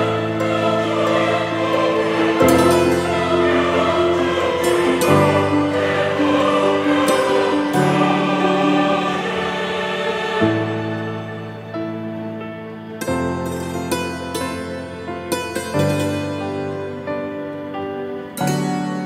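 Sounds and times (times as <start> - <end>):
slow music with held chords: 0.0 - 19.0.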